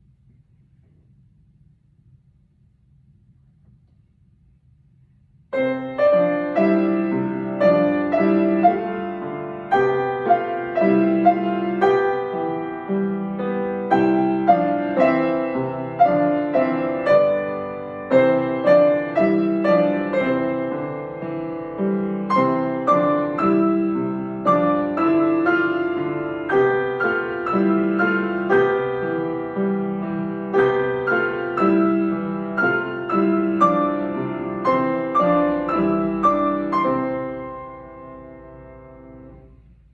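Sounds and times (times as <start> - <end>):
piano piece: 5.4 - 39.9.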